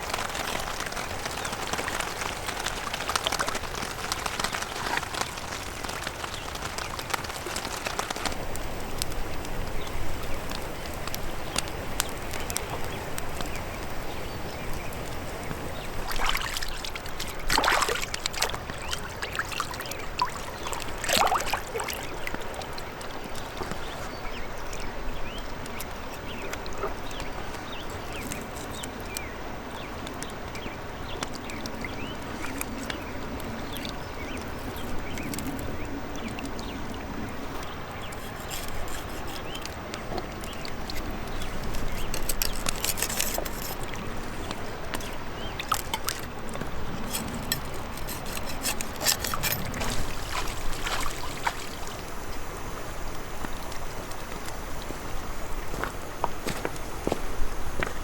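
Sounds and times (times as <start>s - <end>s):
water splashes: 0.0s - 28.8s, 31.2s - 56.4s
water trickling and sloshing: 0.0s - 58.0s.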